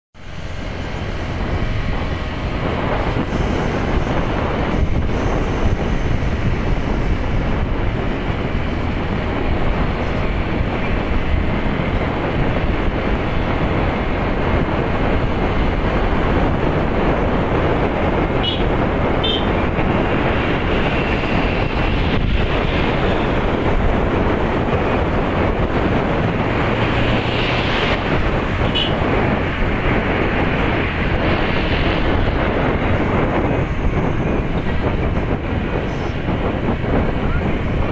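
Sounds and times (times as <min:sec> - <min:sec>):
moving vehicle road noise: 0:00.1 - 0:37.9
wind buffeting microphone: 0:00.2 - 0:37.9.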